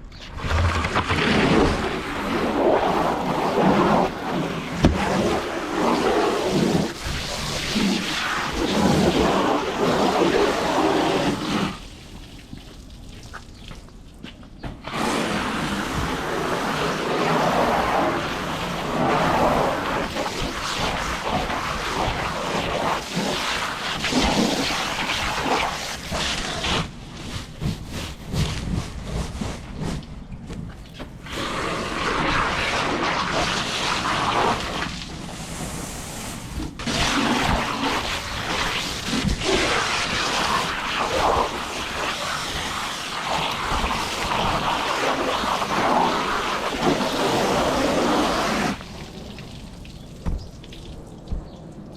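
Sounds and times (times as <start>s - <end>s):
water spraying hard: 0.5s - 13.8s, 14.8s - 26.9s, 31.2s - 51.5s.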